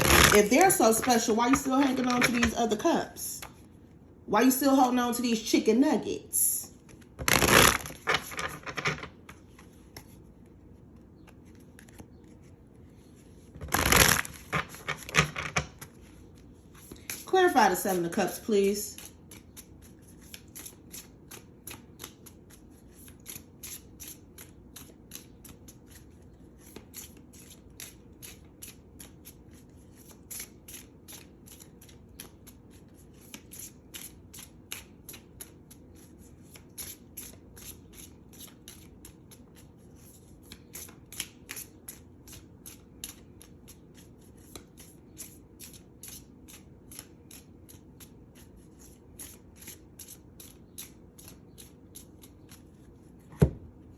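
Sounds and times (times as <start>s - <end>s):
cards being shuffled: 0.0s - 2.6s, 6.8s - 17.3s, 19.0s - 53.2s.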